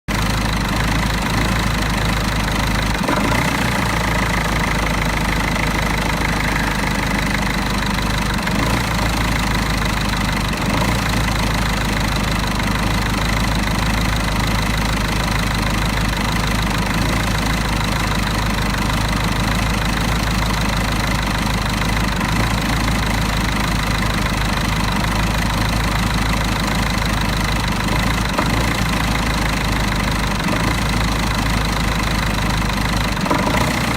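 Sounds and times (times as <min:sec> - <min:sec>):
diesel engine idling roughly: 0:00.1 - 0:33.9.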